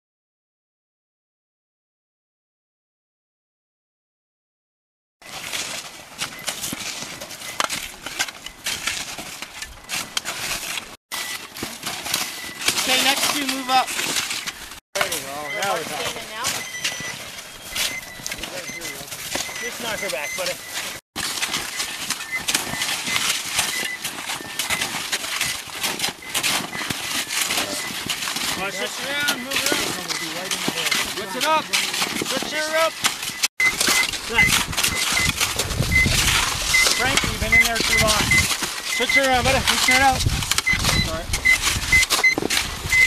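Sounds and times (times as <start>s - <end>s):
shovels chopping and scraping snow: 5.2s - 43.0s.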